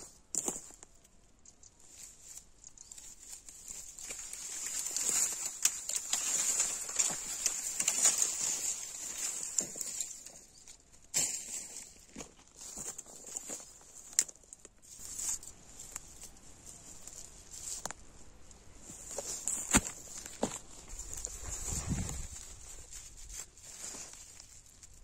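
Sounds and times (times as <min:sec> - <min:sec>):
dry branches rustling and dragging: 0:00.0 - 0:25.0
twigs snapping: 0:00.3 - 0:25.0.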